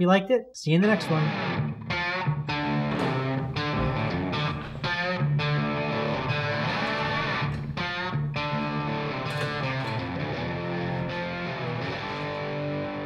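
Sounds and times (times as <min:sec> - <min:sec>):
electric guitar background music: 0:00.9 - 0:13.0.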